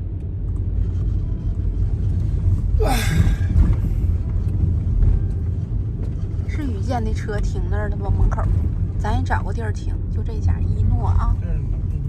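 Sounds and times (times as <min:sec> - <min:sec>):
road rumble inside car: 0:00.0 - 0:12.0.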